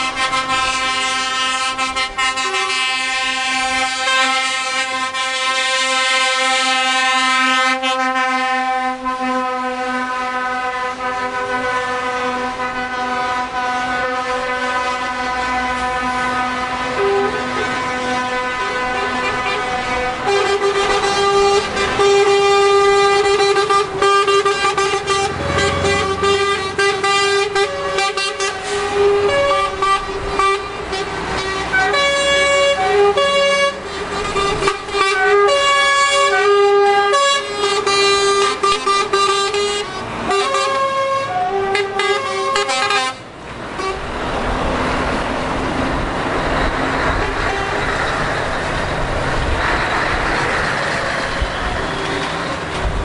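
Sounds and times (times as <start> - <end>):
truck air horns playing a tune: 0.0 - 45.1, 46.7 - 53.0
passing trucks: 0.0 - 53.0.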